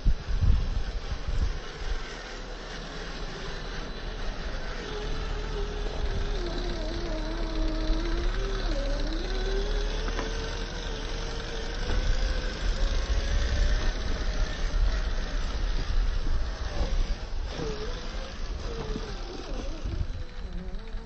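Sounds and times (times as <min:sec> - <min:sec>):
toy car motor whining: 0:00.2 - 0:21.0.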